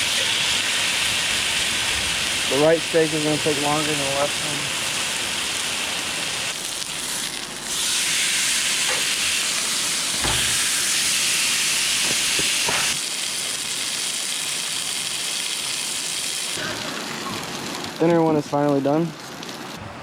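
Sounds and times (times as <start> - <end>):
steaks sizzling: 0.0 - 19.8.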